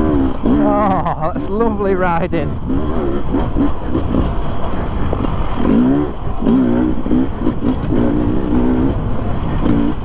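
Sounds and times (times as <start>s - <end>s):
dirt bike engine revving: 0.0s - 10.0s
wind and ground noise: 0.0s - 10.0s.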